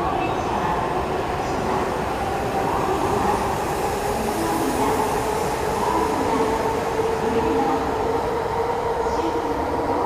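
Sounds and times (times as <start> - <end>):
train running past: 0.0 - 10.0.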